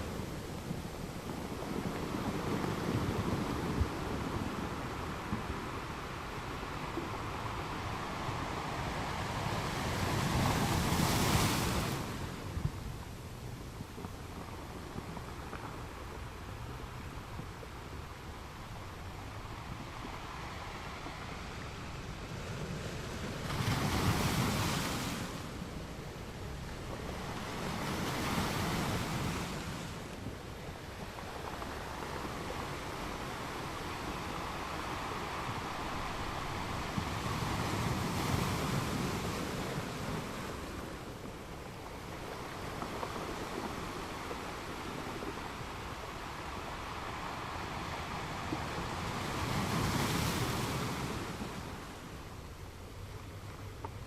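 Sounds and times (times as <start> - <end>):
ocean waves washing onto beach: 0.0 - 54.0.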